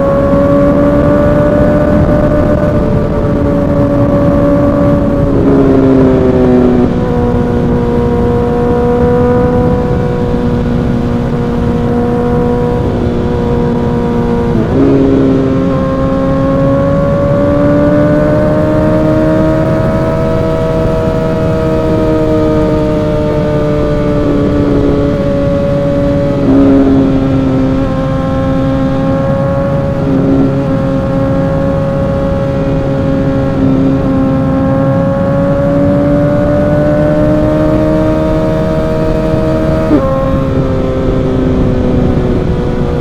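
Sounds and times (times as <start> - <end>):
motorcycle engine at speed: 0.0 - 43.0
wind rush: 0.0 - 43.0.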